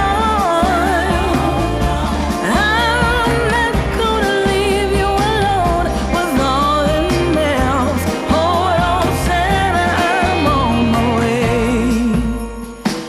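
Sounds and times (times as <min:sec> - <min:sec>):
pop song with sung vocal: 0:00.0 - 0:13.0.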